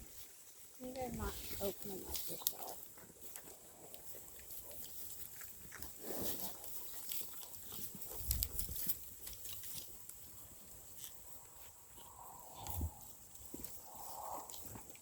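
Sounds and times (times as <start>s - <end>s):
farm animals sounding and moving: 0.0s - 15.0s.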